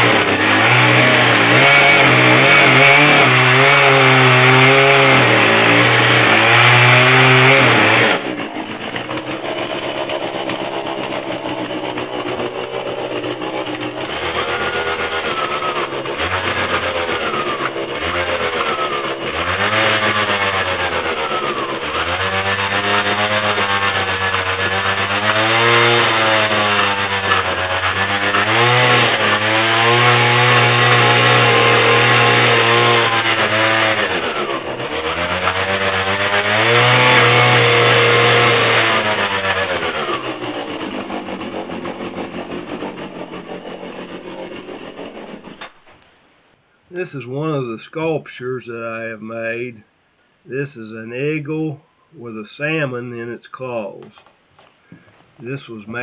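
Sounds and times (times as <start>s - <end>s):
chainsaw cutting wood: 0.0s - 46.2s, 52.6s - 56.0s
chainsaw engine revving: 0.0s - 46.2s, 46.9s - 49.7s, 50.5s - 56.0s.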